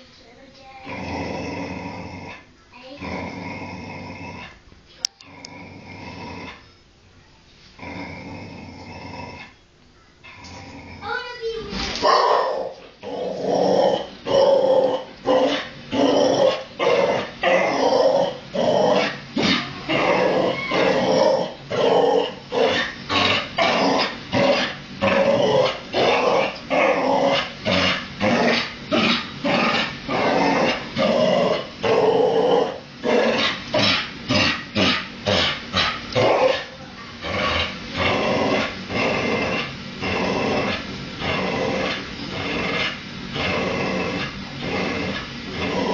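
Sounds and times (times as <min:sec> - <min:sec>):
dog growling and barking: 0:00.8 - 0:04.6, 0:07.8 - 0:09.6, 0:10.2 - 0:11.2, 0:11.9 - 0:45.9.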